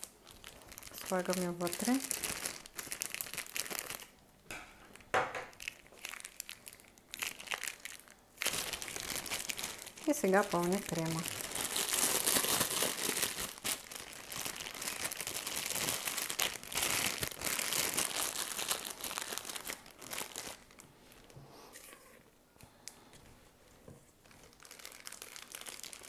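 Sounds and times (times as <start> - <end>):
piping bag crinkling: 0.0 - 4.2, 4.9 - 22.1, 24.1 - 26.0.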